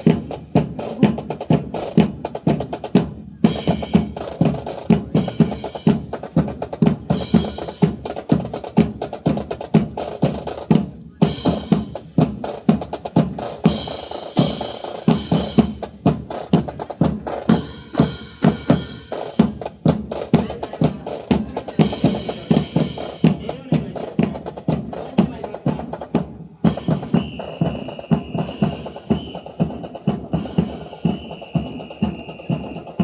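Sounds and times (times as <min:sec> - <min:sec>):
snare drum marching cadence: 0:00.0 - 0:33.0.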